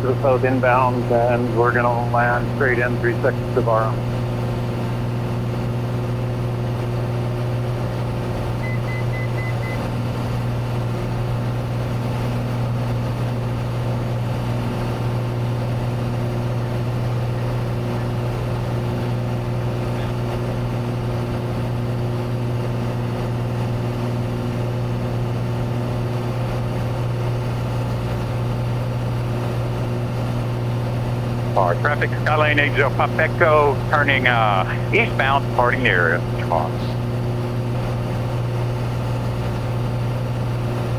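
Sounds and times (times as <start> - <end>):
propeller plane engine droning: 0.0 - 40.9.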